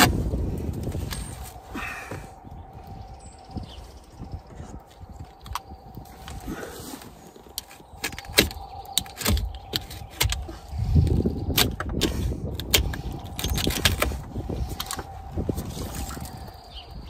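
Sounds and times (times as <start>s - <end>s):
wood scraping and tearing: 0.0s - 2.9s, 4.4s - 17.0s.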